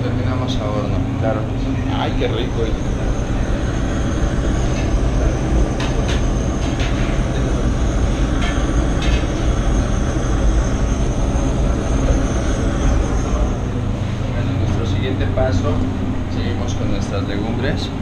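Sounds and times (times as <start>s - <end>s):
kitchen low rumble: 0.0s - 18.0s.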